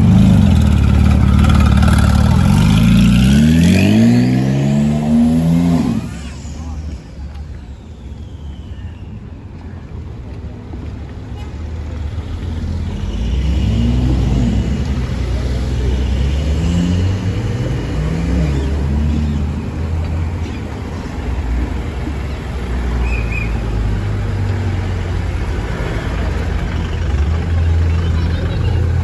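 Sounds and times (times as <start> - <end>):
car engines rumbling and revving: 0.0 - 29.0.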